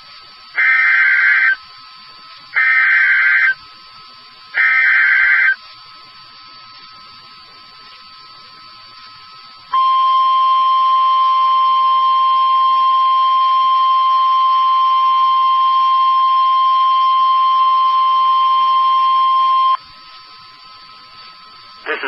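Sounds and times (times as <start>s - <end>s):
faint steady tone: 0.0s - 22.0s
steady warning alarm tone: 0.4s - 22.0s.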